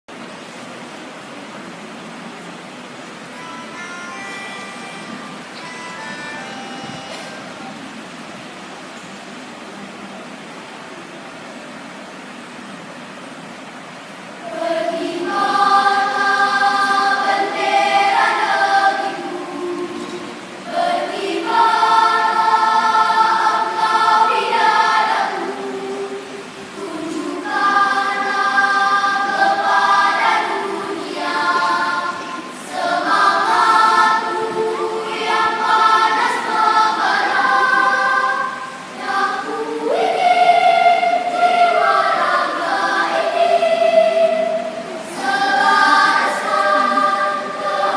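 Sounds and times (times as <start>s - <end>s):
children's choir singing: 0.6s - 9.8s, 13.4s - 47.9s.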